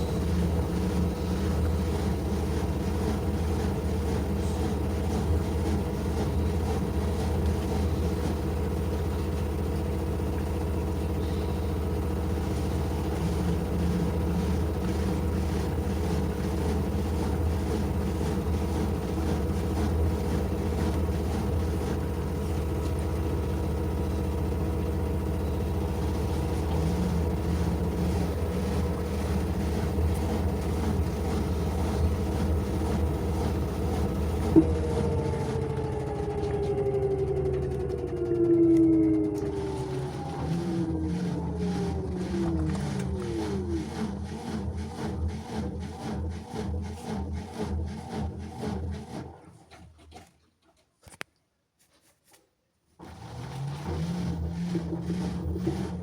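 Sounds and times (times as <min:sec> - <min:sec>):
washing machine motor hum: 0:00.0 - 0:49.4, 0:53.0 - 0:56.0.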